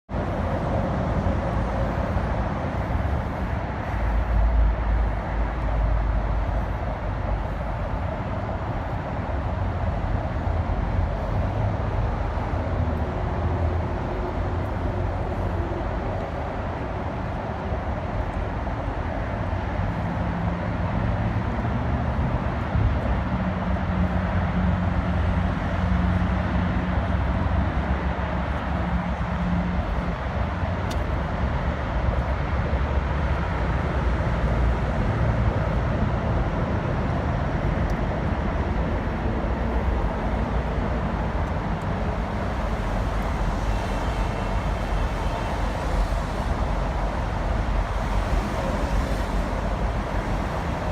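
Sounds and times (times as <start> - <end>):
city traffic rumble: 0.1 - 50.9.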